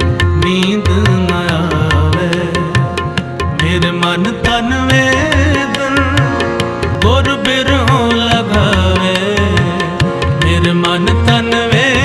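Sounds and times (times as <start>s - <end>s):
tabla beat: 0.0s - 12.0s.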